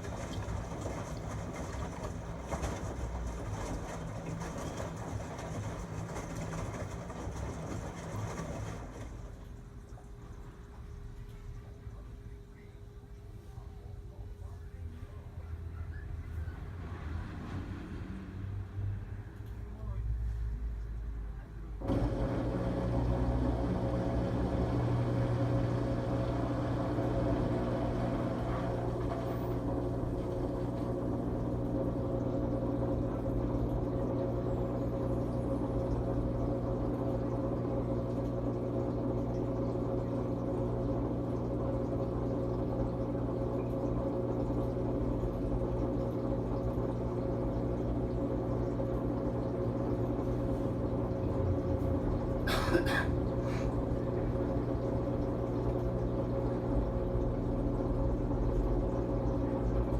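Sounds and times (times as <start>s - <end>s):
washing machine humming: 0.0s - 20.0s, 21.0s - 59.9s.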